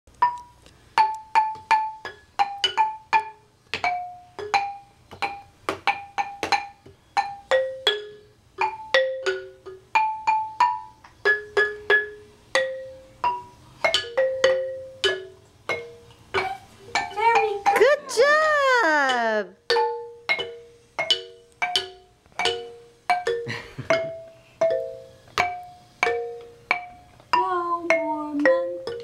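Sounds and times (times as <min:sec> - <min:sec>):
wooden xylophone notes: 0:00.1 - 0:29.0.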